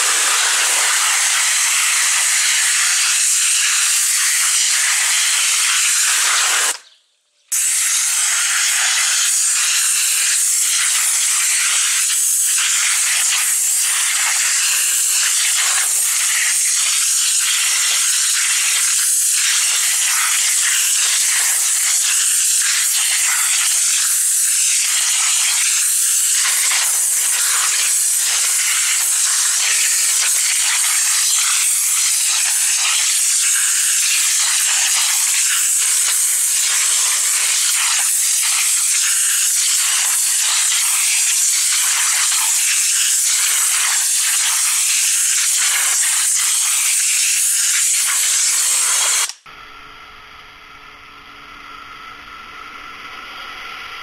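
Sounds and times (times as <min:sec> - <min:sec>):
pressure washer jet spraying water: 0:00.0 - 0:06.8, 0:07.5 - 0:49.4.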